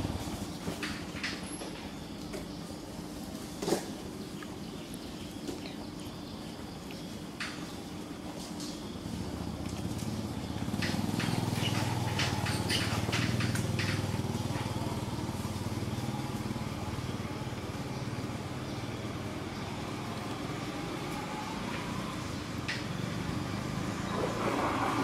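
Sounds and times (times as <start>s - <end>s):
engine humming: 0.0s - 4.3s, 7.3s - 25.0s.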